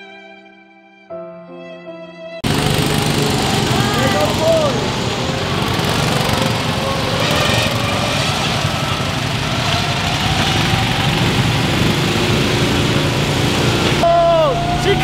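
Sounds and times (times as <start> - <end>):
go-kart engines running: 2.4 - 15.0.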